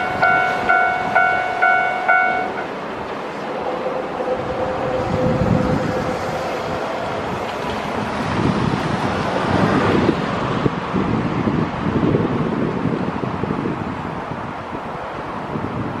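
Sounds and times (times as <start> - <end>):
electric train on steel bridge: 0.0 - 16.0
wind gusting on microphone: 0.0 - 16.0.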